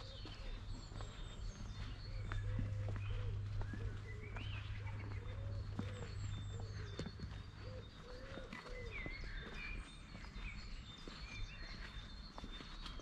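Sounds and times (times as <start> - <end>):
footsteps on stone path: 0.0 - 13.0
small birds chirping and whistling: 0.0 - 13.0.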